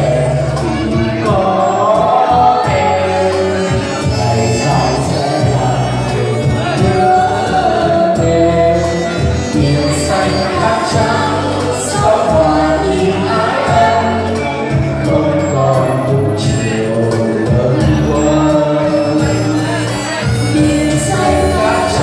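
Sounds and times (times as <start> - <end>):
amplified voices singing karaoke: 0.0 - 22.0
backing track with bass line: 0.0 - 22.0.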